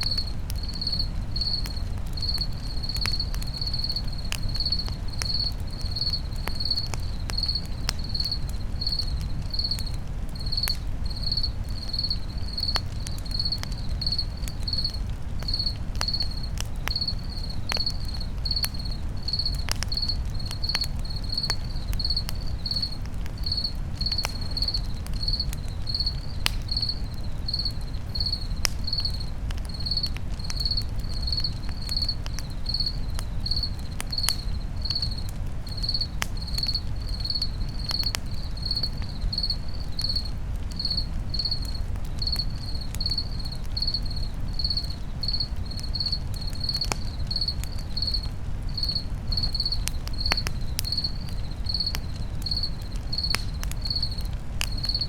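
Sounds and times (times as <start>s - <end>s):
campfire crackling: 0.0s - 55.0s
cricket chirping: 0.0s - 55.0s.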